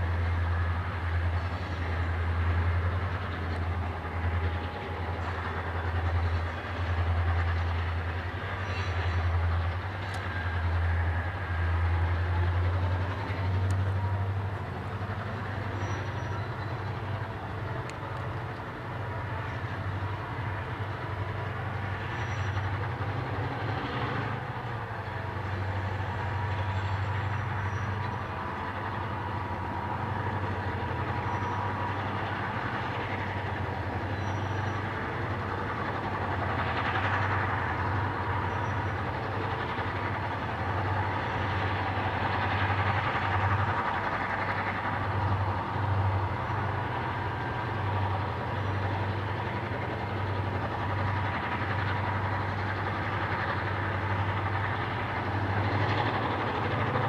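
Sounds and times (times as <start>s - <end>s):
diesel locomotive engine throb: 0.0s - 57.0s.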